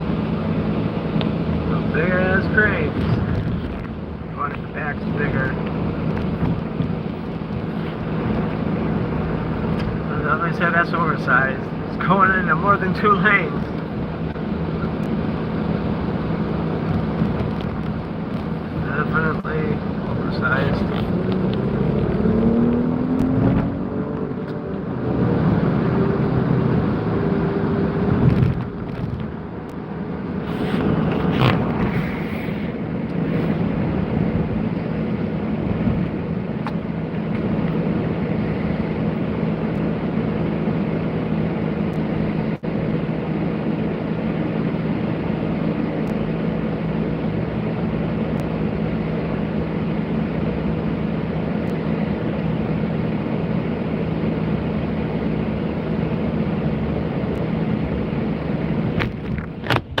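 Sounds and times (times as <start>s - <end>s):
low hum: 0.0s - 60.0s
road traffic tyre and engine noise: 0.0s - 60.0s.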